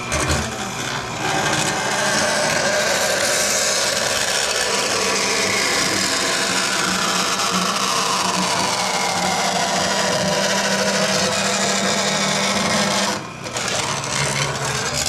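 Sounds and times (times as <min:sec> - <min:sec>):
bandsaw cutting metal: 0:00.0 - 0:15.0
bandsaw humming: 0:00.0 - 0:15.0.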